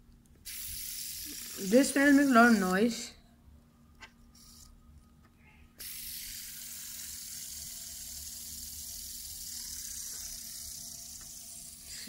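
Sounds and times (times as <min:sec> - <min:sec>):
fidget spinner whirring: 0:00.4 - 0:03.2, 0:03.9 - 0:05.1, 0:05.8 - 0:12.0.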